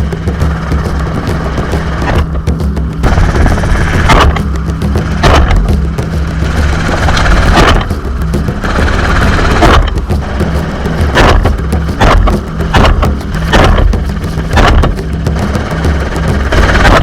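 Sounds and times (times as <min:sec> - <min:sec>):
helicopter drone: 0:00.0 - 0:17.0.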